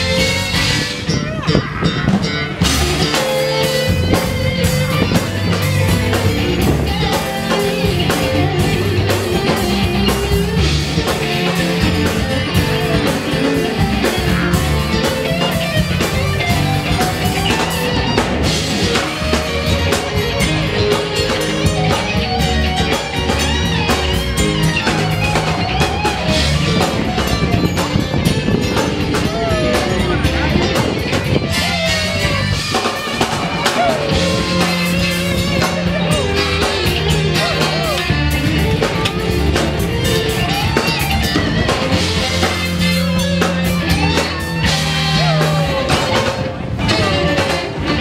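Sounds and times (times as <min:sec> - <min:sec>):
live band playing: 0:00.0 - 0:48.0.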